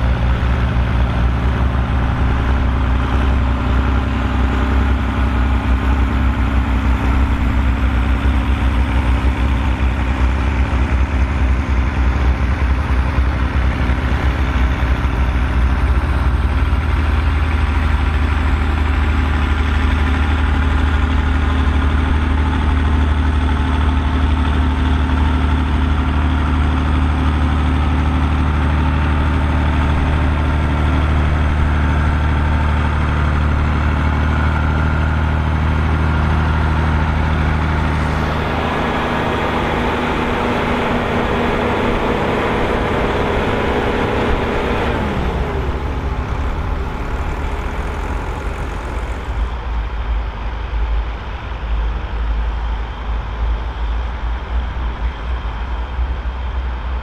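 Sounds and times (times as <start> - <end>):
tractor diesel engines under load: 0.0 - 57.0.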